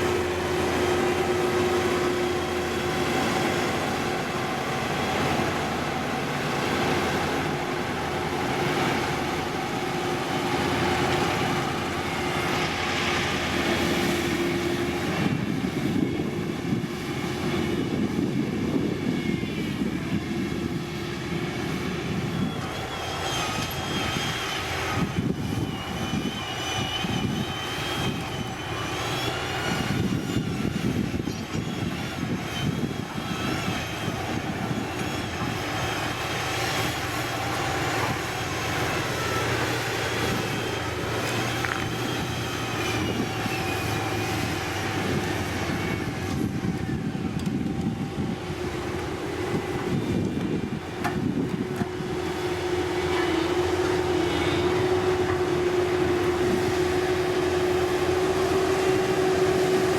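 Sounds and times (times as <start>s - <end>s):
diesel construction machinery: 0.0s - 59.9s
high wavering whine: 0.0s - 59.9s.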